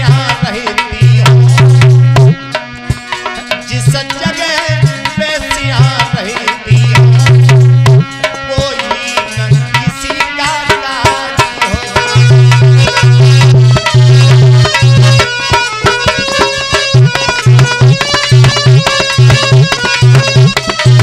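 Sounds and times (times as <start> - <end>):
man singing devotional verse: 0.0 - 2.2, 3.5 - 20.0.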